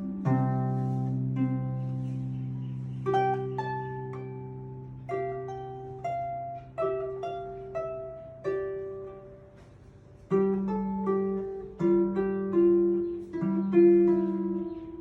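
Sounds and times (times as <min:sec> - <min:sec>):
harp playing slow melody: 0:00.0 - 0:15.0.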